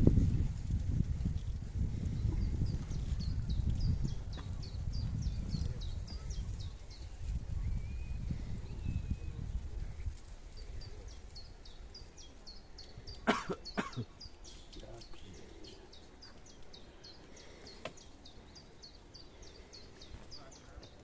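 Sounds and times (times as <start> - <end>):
small bird chirping: 2.1 - 21.0.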